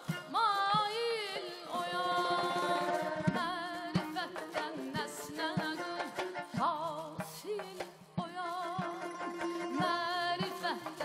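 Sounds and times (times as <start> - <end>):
high voice singing melismas: 0.0 - 11.0.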